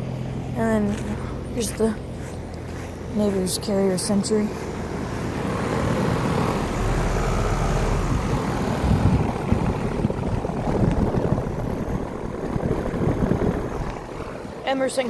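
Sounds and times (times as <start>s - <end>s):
compressor humming: 0.0s - 15.0s
condenser fan blowing: 0.0s - 15.0s.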